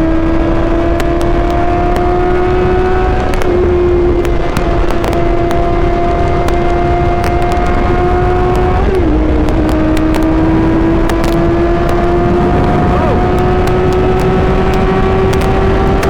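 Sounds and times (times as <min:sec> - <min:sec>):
motorcycle engine at high revs: 0:00.0 - 0:16.0
wind rush on microphone: 0:00.0 - 0:16.0.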